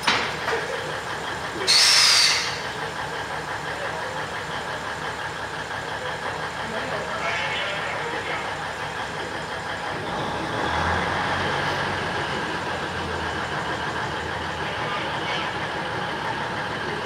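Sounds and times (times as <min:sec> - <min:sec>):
diesel locomotive idling: 0:00.0 - 0:17.0.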